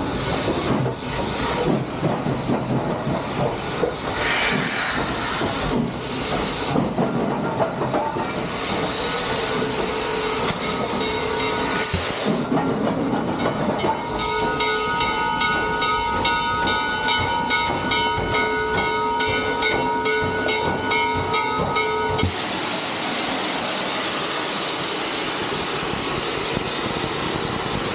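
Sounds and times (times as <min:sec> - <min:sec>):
steam hissing: 0:00.0 - 0:13.3, 0:14.0 - 0:27.9
steam locomotive bell ringing: 0:04.1 - 0:27.9.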